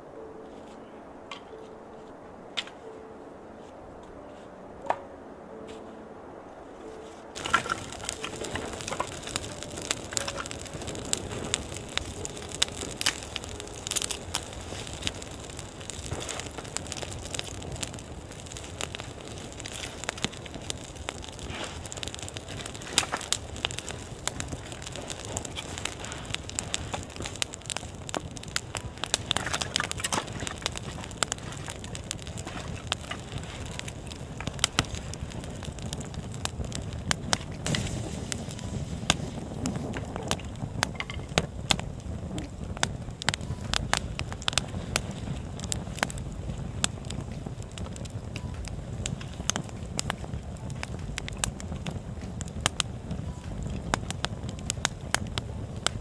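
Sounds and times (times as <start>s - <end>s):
rustling hiss: 0.0s - 56.0s
crackling and snapping: 6.9s - 56.0s.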